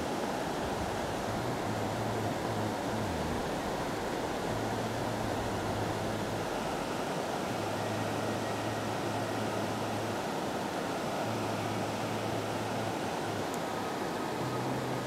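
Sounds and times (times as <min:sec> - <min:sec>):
river water rushing over rocks: 0:00.0 - 0:15.0
faint low hum: 0:00.4 - 0:15.0.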